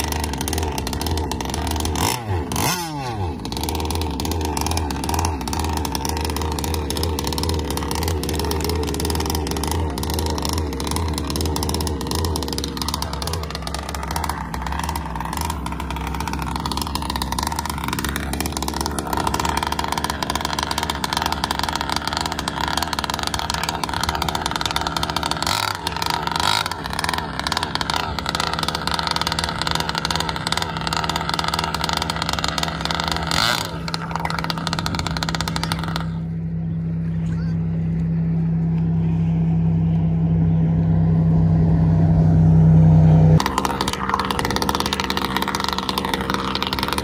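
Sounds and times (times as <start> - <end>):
model boat engine revving: 0.0 - 36.5, 42.1 - 47.0.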